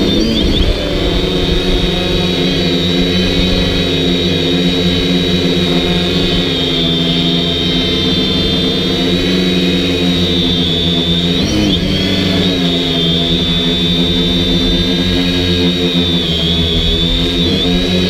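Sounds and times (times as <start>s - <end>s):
drone motors buzzing and whining: 0.0s - 18.0s.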